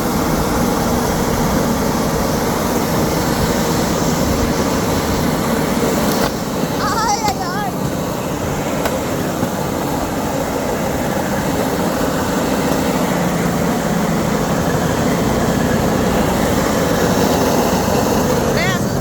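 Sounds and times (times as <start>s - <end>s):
vehicle engine drone: 0.0s - 19.0s.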